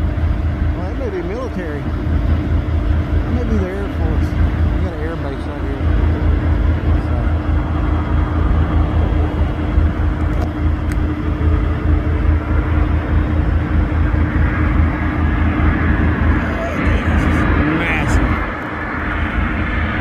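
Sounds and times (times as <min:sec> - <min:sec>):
constant hum: 0:00.0 - 0:20.0
diesel truck engine idling: 0:00.0 - 0:20.0.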